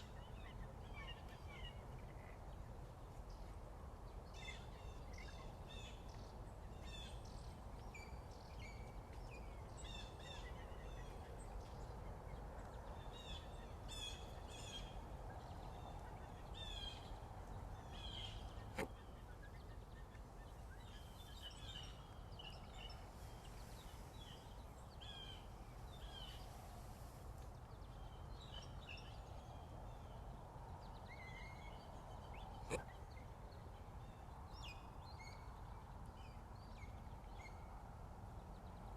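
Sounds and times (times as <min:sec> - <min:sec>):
small birds chirping and singing: 0:00.0 - 0:37.6
low background noise: 0:00.0 - 0:38.9.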